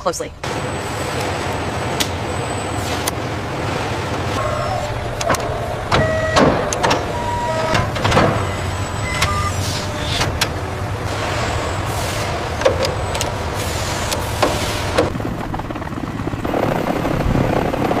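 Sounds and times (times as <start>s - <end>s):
machinery hum: 0.3s - 17.8s.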